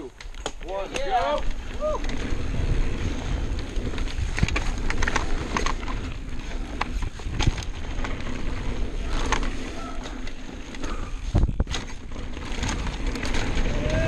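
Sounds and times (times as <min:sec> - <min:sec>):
bike clicks and rattles: 0:00.0 - 0:14.0
tyres running over dirt: 0:00.1 - 0:14.0
wind buffeting microphone: 0:01.4 - 0:14.0.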